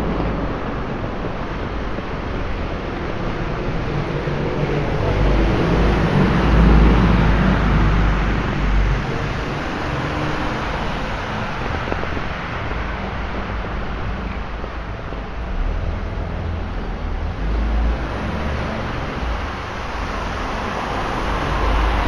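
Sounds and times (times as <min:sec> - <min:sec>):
vehicle passing on wet road: 0:00.0 - 0:22.0.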